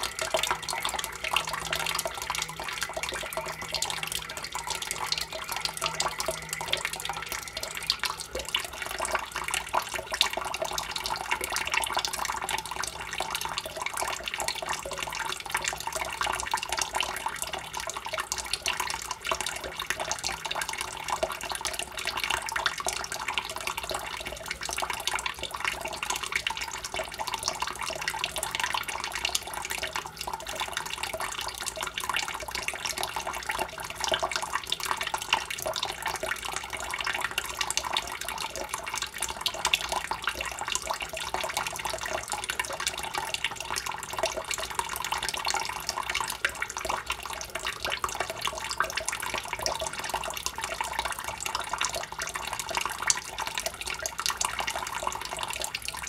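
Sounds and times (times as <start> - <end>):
tap water trickling into basin: 0.0 - 56.0.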